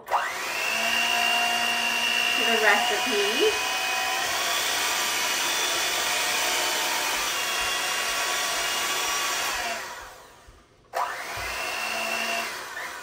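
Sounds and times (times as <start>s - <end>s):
electric hand mixer whirring: 0.0s - 13.0s.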